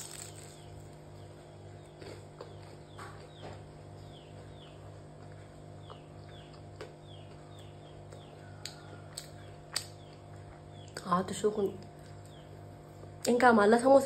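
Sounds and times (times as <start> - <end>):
low pulsing hum: 0.0 - 14.0
small birds chirping: 0.0 - 14.0.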